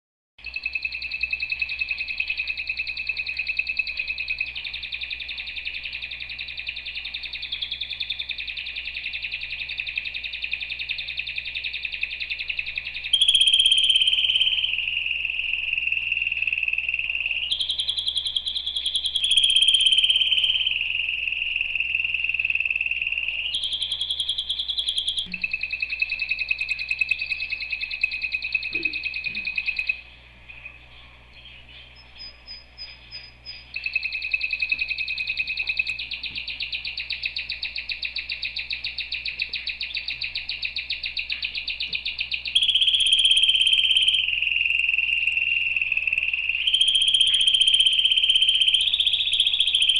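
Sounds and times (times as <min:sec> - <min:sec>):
canary singing trills: 0:00.4 - 0:49.9.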